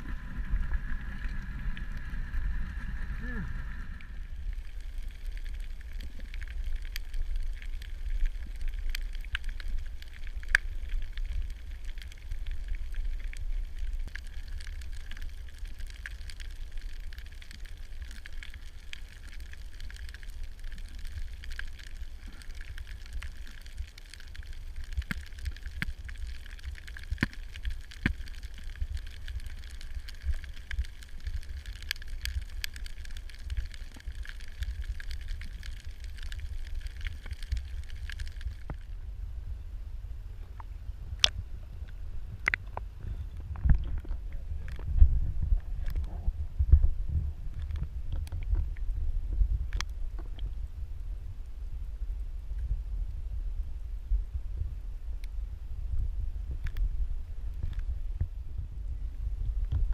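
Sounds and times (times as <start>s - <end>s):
sharp clicks and crackles: 0.0s - 39.0s, 40.4s - 46.9s, 47.5s - 48.9s, 49.6s - 50.6s, 56.6s - 56.9s, 57.5s - 58.2s
low underwater rumble: 0.0s - 59.9s.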